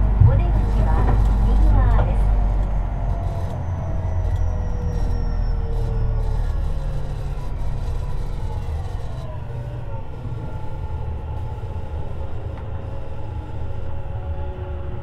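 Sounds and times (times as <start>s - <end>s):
traction motor whine: 0.0s - 15.0s
train wheels rumbling on rail: 0.0s - 15.0s.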